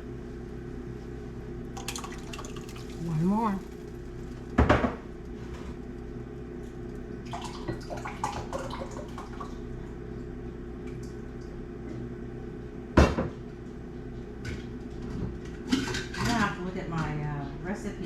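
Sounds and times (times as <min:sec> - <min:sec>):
steady appliance hum: 0:00.0 - 0:18.0.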